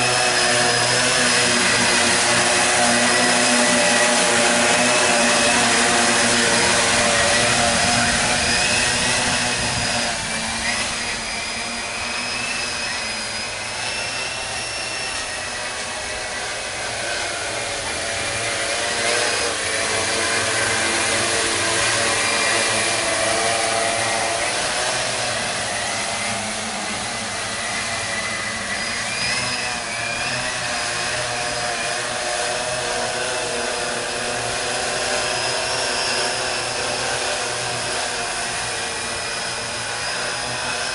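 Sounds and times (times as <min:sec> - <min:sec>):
drone propeller buzz: 0:00.0 - 0:40.9.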